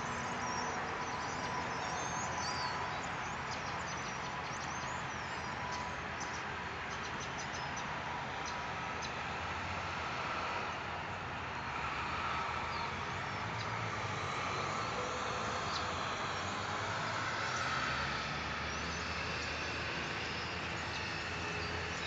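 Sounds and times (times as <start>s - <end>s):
flock of birds chirping: 0.0s - 9.7s, 11.6s - 22.0s
road traffic rumble: 0.0s - 22.0s.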